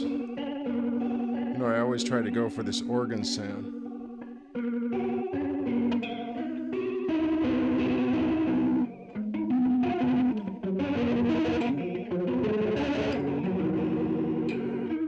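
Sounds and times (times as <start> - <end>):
electric guitar chords with flanger: 0.0 - 15.0.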